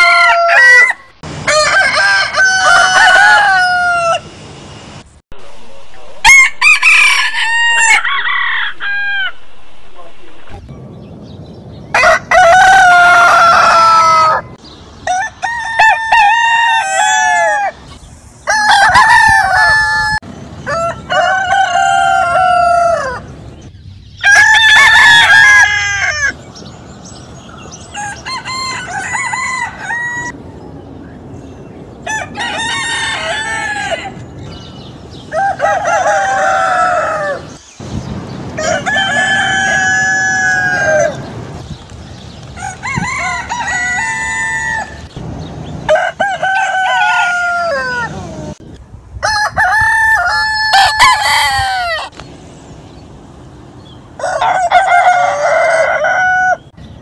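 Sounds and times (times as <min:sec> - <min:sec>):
roosters crowing: 0:00.0 - 0:04.4, 0:05.9 - 0:09.6, 0:11.8 - 0:30.9, 0:31.9 - 0:48.6, 0:49.2 - 0:52.3, 0:52.9 - 0:56.8.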